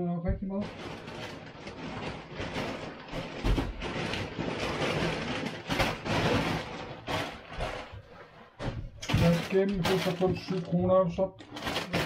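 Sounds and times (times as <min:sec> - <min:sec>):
plastic bag rustling and crinkling: 0:00.4 - 0:12.0.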